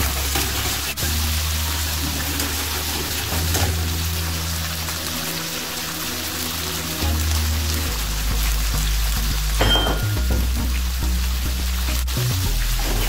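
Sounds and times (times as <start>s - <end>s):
background music with bass: 0.0s - 13.0s
prawns sizzling in a frying pan: 0.0s - 13.0s.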